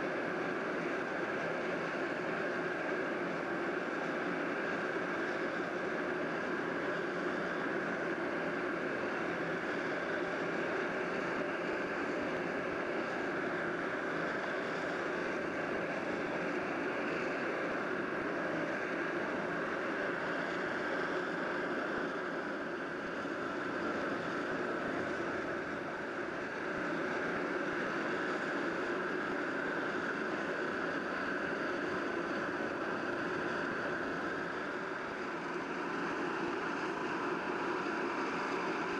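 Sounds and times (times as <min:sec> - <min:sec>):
engine drone with hiss: 0:00.0 - 0:38.9.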